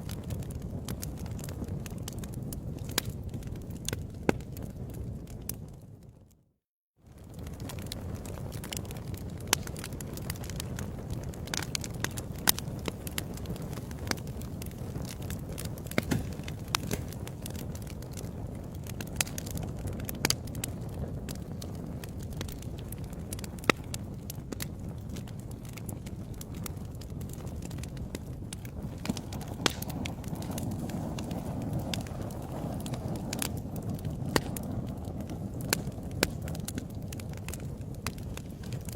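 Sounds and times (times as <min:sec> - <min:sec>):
fire crackling and popping: 0:00.0 - 0:06.4, 0:07.0 - 0:38.9.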